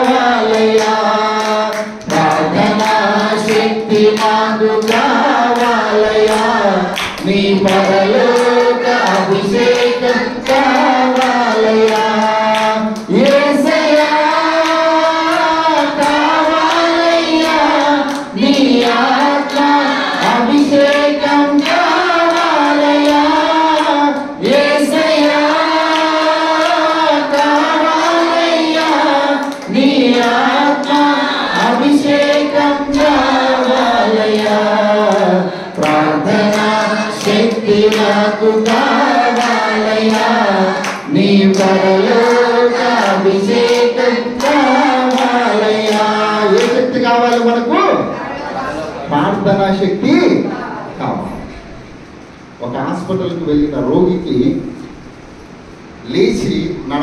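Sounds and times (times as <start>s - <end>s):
hand-clapping: 0.0s - 47.5s
group singing along: 0.0s - 52.0s.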